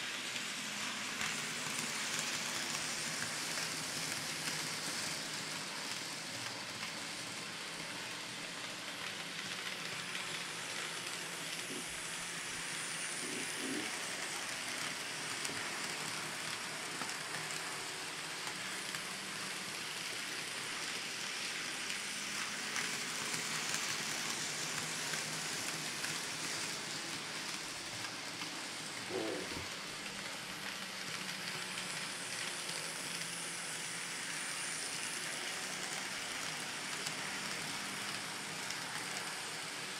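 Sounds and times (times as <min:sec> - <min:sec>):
model train wheels rattling on rails: 0:00.0 - 0:39.9.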